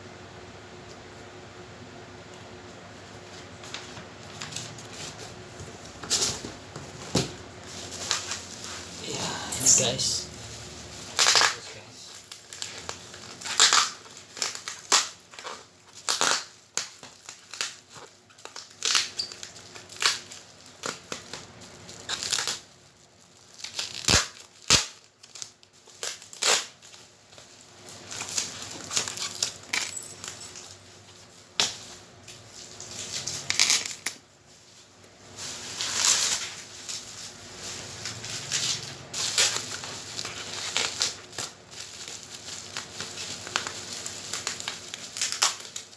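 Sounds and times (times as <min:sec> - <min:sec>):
packaging rustling and tearing: 0:03.1 - 0:29.8, 0:30.5 - 0:45.9.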